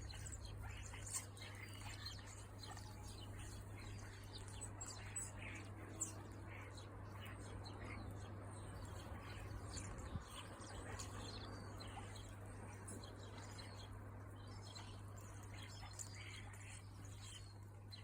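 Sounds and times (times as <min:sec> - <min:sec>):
birds cheeping: 0:00.0 - 0:18.0
steady low hum: 0:00.0 - 0:18.0.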